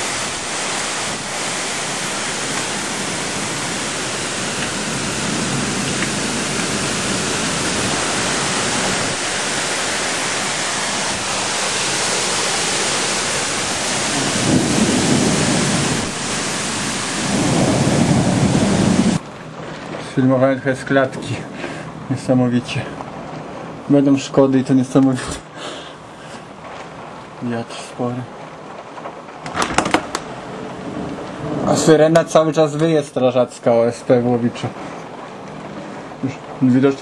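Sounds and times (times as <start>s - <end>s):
gusting wind through trees: 0.0s - 37.0s
heavy rain pouring: 0.0s - 37.0s.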